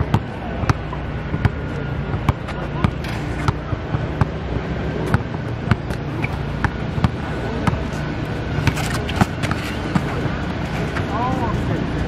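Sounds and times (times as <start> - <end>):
basketball bouncing on hard court: 0.0 - 10.2
steady background noise: 0.0 - 12.0.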